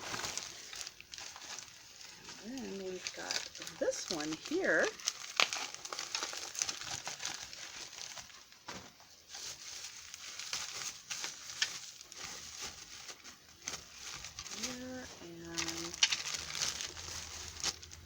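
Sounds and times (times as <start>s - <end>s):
plastic packing material crinkling: 0.0s - 18.0s.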